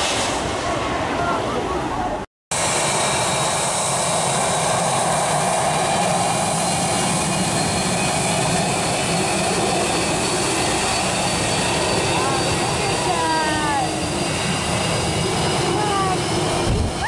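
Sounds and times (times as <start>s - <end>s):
high turbine whine: 0.0s - 17.0s
jet engines running: 0.0s - 17.0s.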